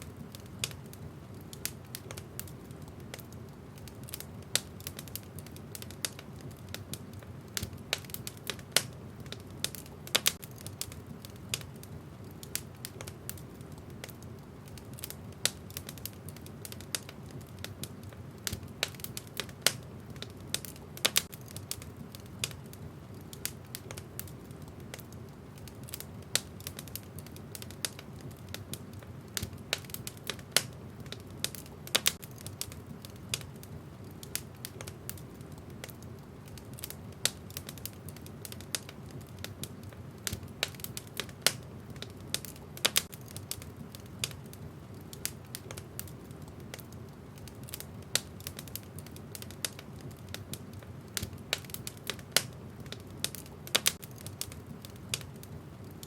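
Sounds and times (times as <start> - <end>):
flames rumbling: 0.0 - 56.0
logs crackling and popping: 0.0 - 56.0.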